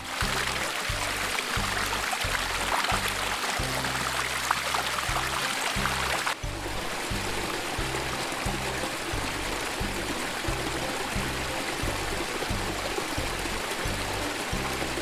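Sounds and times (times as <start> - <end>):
music with repeating bass beat: 0.0 - 15.0
water trickling in a channel: 0.0 - 15.0.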